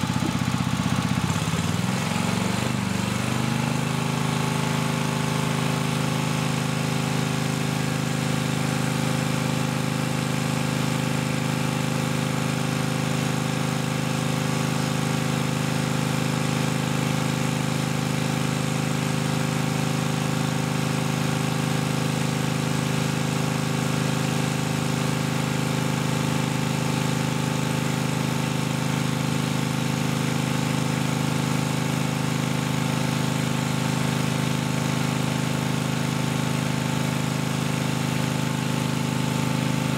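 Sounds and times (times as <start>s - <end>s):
pump running drone: 0.0s - 39.9s.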